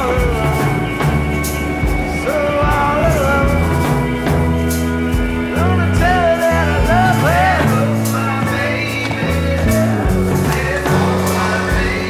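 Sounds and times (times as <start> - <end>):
bass line: 0.0 - 12.0
rock music: 0.0 - 12.0.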